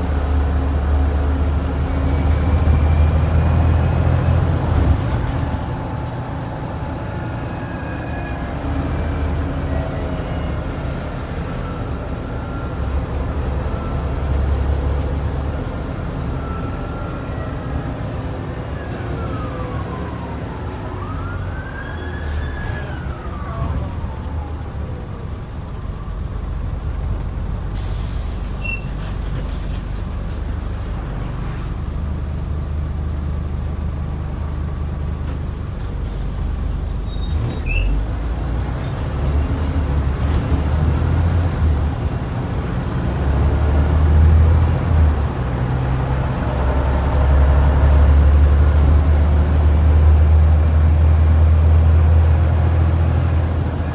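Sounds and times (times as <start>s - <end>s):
bus diesel engine rumbling: 0.0s - 53.9s.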